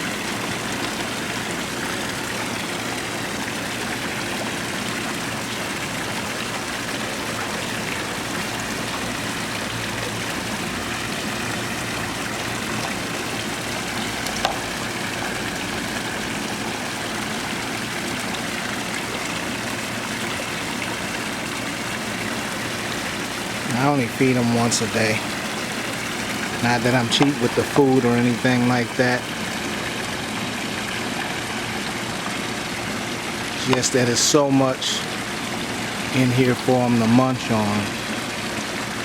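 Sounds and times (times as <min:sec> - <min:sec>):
low steady hum: 0:00.0 - 0:39.0
water running and splashing: 0:00.0 - 0:39.0.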